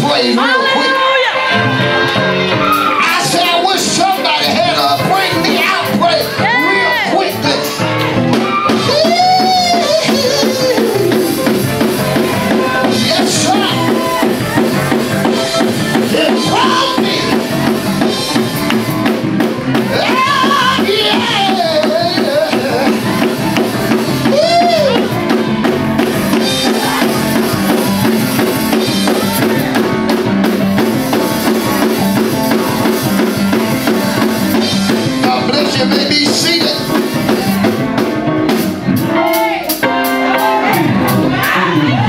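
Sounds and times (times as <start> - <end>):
other instruments playing: 0.0 - 42.0
drum kit fast rhythm: 1.6 - 42.0.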